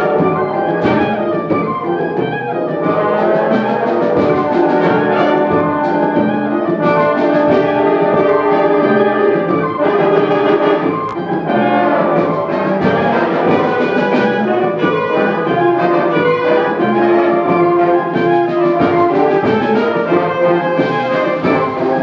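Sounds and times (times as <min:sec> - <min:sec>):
symphonic band playing: 0:00.0 - 0:22.0.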